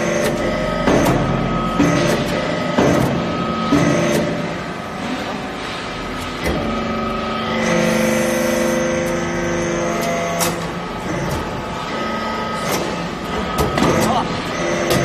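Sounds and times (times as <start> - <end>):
hydraulic drive whine: 0.0 - 15.0.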